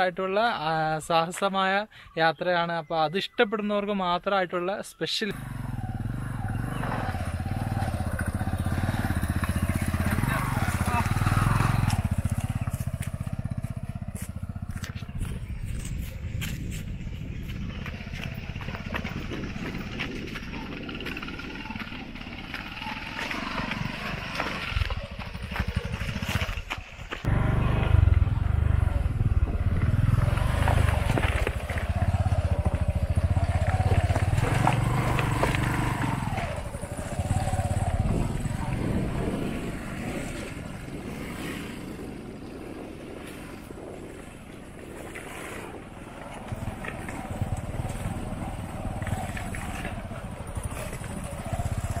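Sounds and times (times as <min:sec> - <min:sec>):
motorcycle engine climbing: 0:05.3 - 0:52.0.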